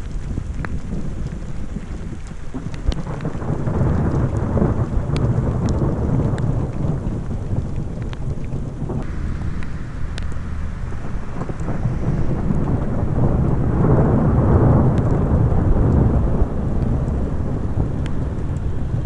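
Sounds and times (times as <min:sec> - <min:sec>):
raindrop ticks: 0:00.0 - 0:19.0
steady rain: 0:00.0 - 0:19.0
thunder rumbling: 0:00.0 - 0:19.0.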